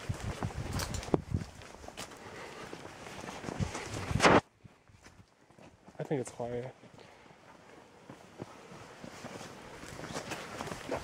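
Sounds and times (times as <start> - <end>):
footsteps on gravel trail: 0.0 - 11.0.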